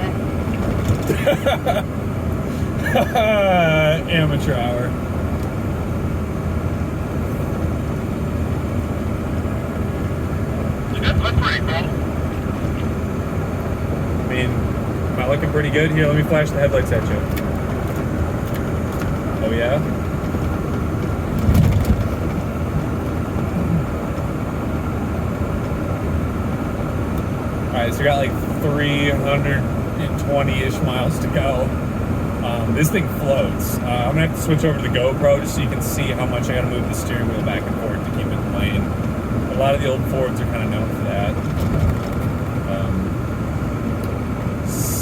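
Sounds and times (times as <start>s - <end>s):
engine and road drone in cabin: 0.0s - 45.0s.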